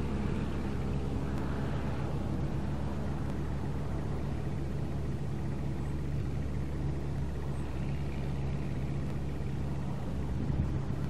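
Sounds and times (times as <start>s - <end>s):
airplane engine drone: 0.0s - 11.0s.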